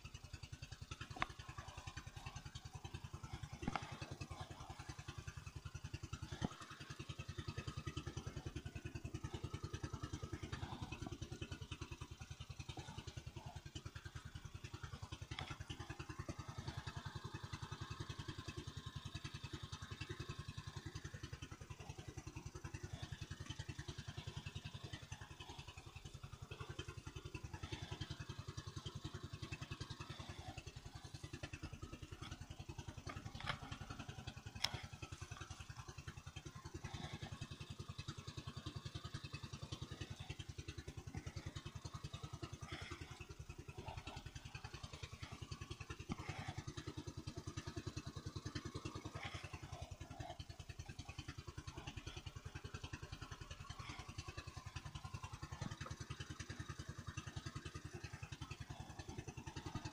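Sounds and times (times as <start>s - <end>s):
boat engine chugging: 0.0s - 59.9s.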